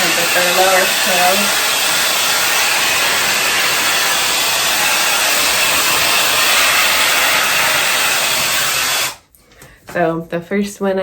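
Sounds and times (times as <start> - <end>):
hair dryer blowing: 0.0 - 9.2.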